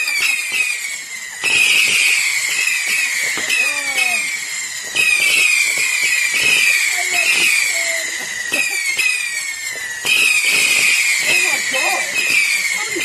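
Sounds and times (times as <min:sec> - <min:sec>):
firework shrill whistles: 0:00.0 - 0:13.0.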